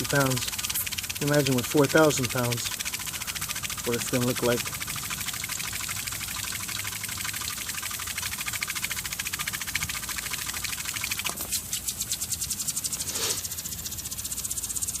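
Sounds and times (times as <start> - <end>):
spinning water nozzle spraying: 0.0 - 15.0.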